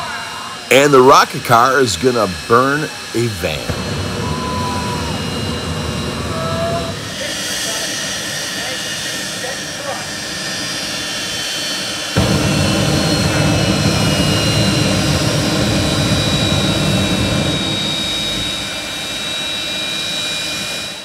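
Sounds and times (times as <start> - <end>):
jet engine roaring: 0.0 - 21.0.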